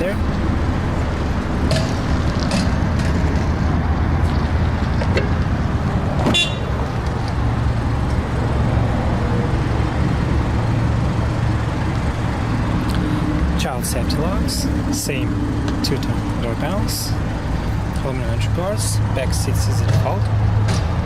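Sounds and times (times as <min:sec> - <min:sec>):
motor vehicle rumble: 0:00.0 - 0:21.0.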